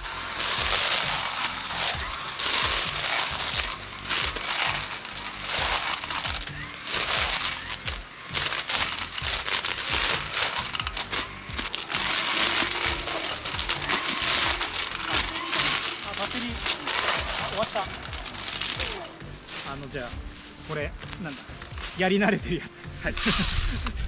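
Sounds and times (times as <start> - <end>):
background music: 0.0 - 24.0
branches crackling and snapping: 0.0 - 24.0.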